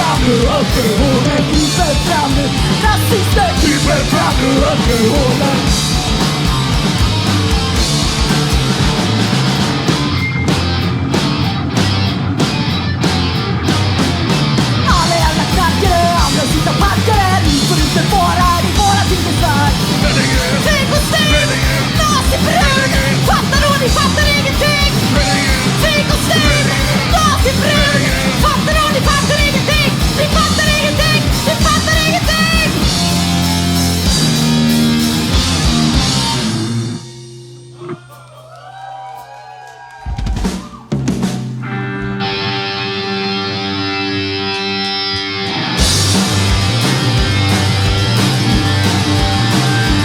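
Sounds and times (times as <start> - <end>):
punk rock band playing: 0.0 - 50.0.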